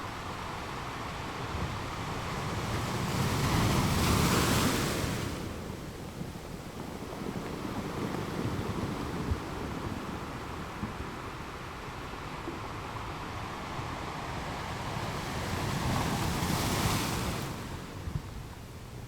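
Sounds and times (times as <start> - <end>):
ocean wave breaking on rocks: 0.8 - 18.5.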